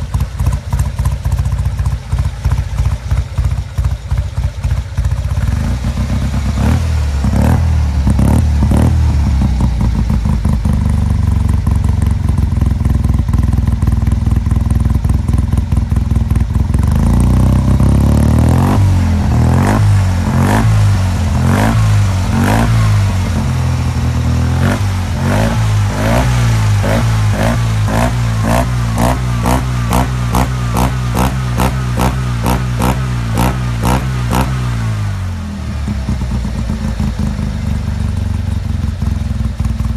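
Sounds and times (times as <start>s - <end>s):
twin-cylinder car engine revving: 0.0s - 39.9s.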